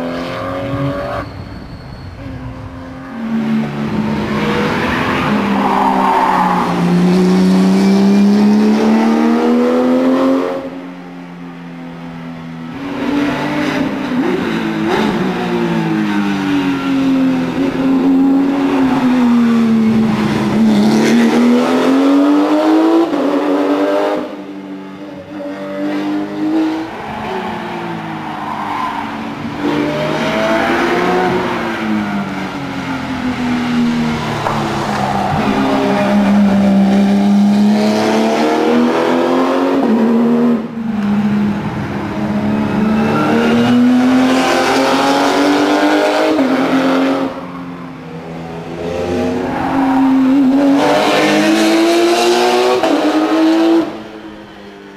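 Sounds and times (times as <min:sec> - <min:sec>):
race car engine at high revs: 0:03.2 - 0:11.0, 0:12.0 - 0:54.7.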